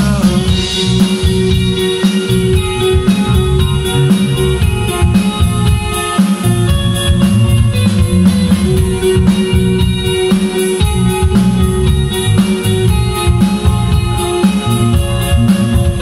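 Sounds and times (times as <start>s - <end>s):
drum kit beat: 0.0s - 16.0s
electric bass: 0.0s - 16.0s
electric guitar: 0.0s - 16.0s.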